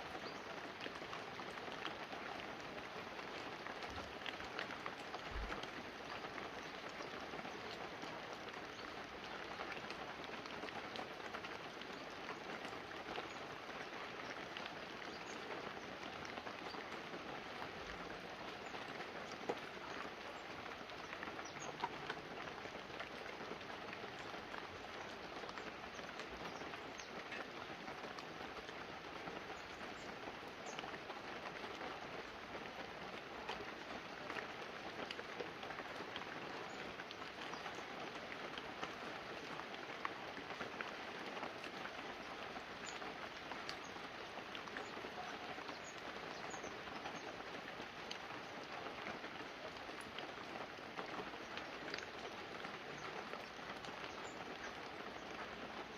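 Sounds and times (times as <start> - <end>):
rain on leaves and roof: 0.0 - 55.9
raindrops tapping: 0.1 - 55.9.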